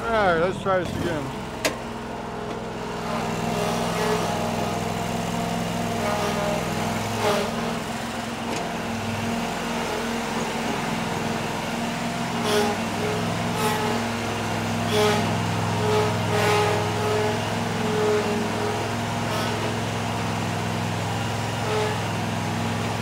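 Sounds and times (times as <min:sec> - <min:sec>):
mower engine running: 0:00.0 - 0:23.0.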